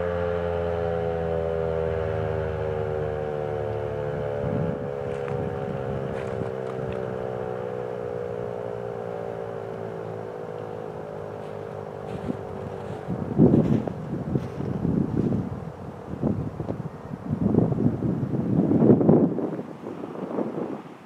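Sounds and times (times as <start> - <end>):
siren winding down: 0.0 - 19.6.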